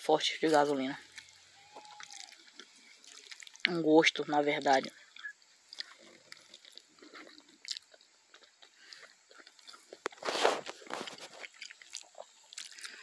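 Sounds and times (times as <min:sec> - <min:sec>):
wet chewing: 0:00.4 - 0:13.0.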